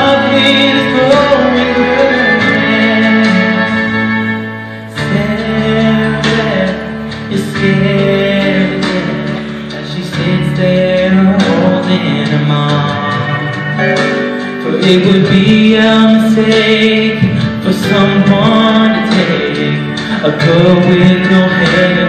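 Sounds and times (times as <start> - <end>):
guitar backing track: 0.0 - 22.0
man singing into microphone: 0.0 - 22.0.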